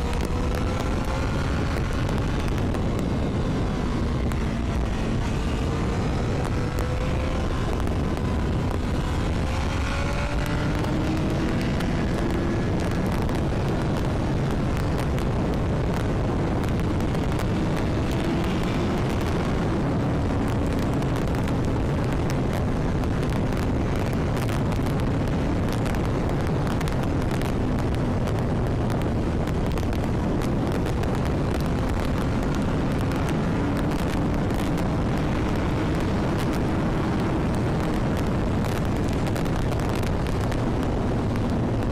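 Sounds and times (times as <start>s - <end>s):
motorcycle engine running: 0.0s - 41.9s
wind buffeting on microphone: 0.0s - 41.9s.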